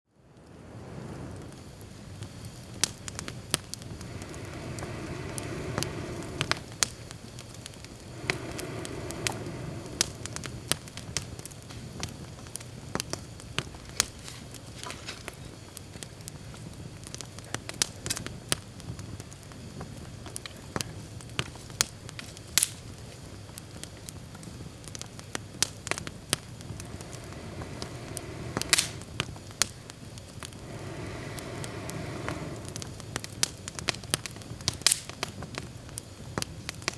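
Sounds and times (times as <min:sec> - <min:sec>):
rumble of flames: 0:00.1 - 0:36.9
campfire crackling and popping: 0:00.2 - 0:36.9.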